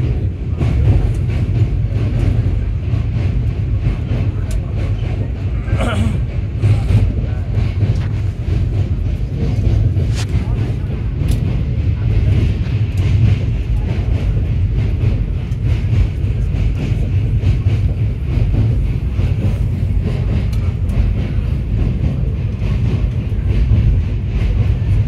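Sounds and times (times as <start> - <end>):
train rumbling on bridge: 0.0 - 25.0.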